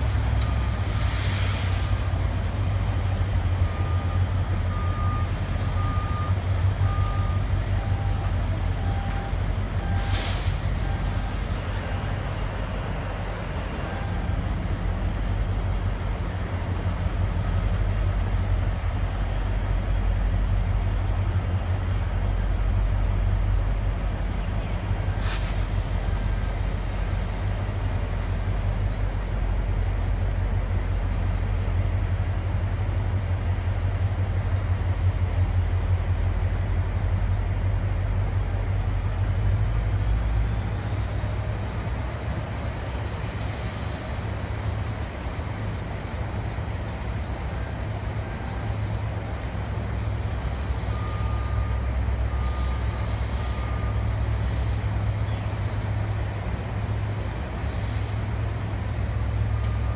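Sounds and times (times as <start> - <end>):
locomotive diesel engine running: 0.0 - 59.9.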